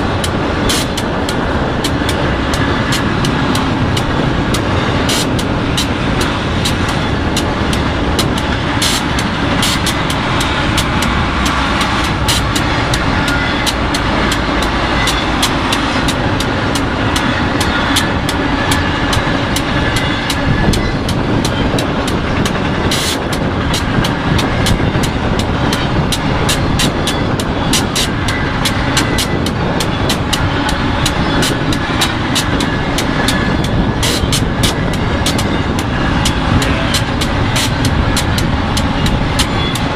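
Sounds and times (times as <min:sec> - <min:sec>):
freight train rumbling past: 0:00.0 - 0:39.9
sharp clicks of wheels: 0:00.0 - 0:39.9.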